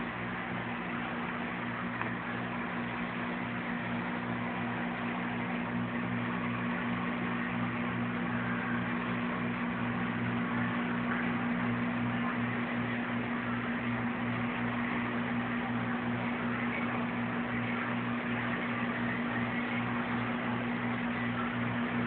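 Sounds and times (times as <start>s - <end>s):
low mechanical hum with hiss: 0.0s - 22.0s.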